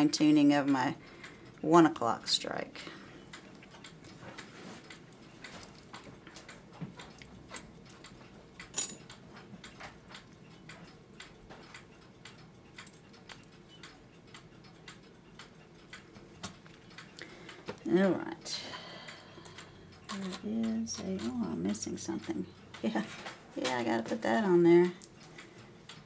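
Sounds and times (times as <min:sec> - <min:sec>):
clock movement ticking: 0:00.0 - 0:26.0.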